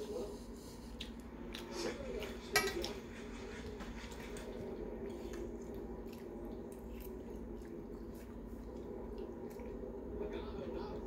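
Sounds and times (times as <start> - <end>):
steady low hum: 0.0 - 11.0
person chewing food: 0.8 - 10.2.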